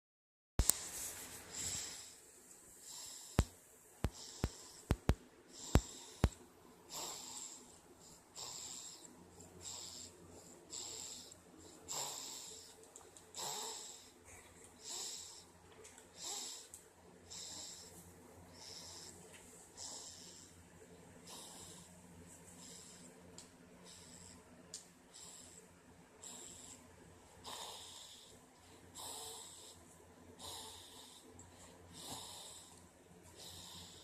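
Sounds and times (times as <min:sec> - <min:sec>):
muffled breathy snoring: 0:01.5 - 0:34.0.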